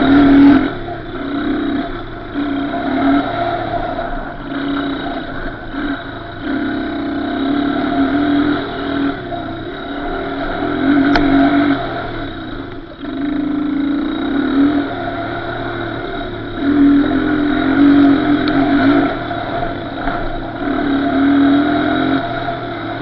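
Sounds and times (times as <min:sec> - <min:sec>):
small off-road engine revving: 0:00.0 - 0:23.0.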